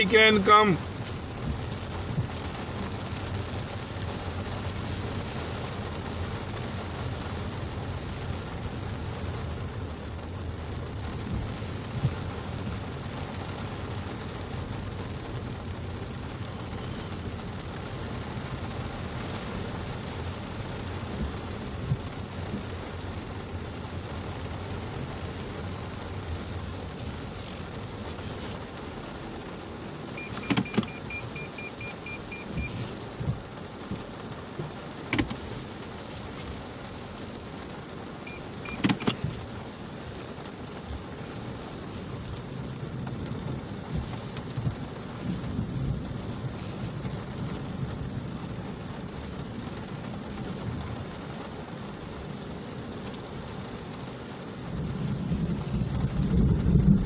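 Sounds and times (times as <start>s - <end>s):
heavy rain on car roof: 0.0s - 57.0s
low vehicle hum: 0.0s - 57.0s.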